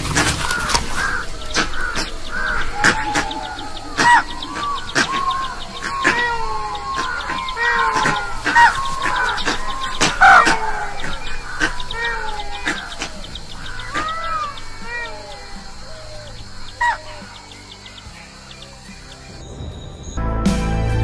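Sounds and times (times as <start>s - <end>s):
chorus of animal calls: 0.0s - 20.0s.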